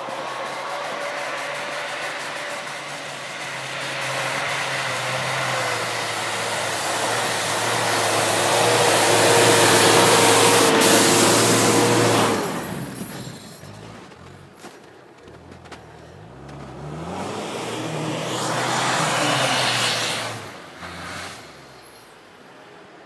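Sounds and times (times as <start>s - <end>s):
off-road vehicle engine under load: 0.0s - 23.0s.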